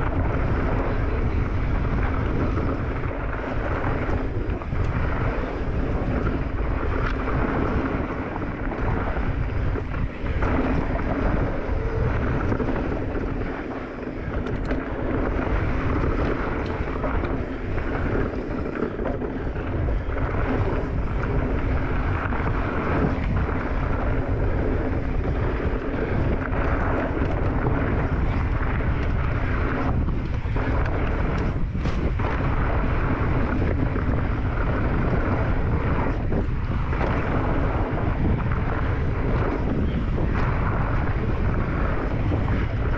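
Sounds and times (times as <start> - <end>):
tyres rolling on dirt: 0.0 - 42.9
wind rushing over microphone: 0.0 - 42.9.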